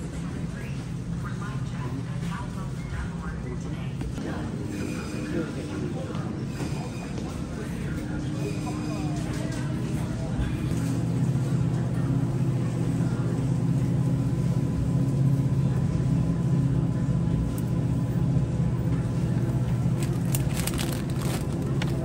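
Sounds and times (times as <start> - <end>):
drinks coolers humming: 0.0 - 22.0.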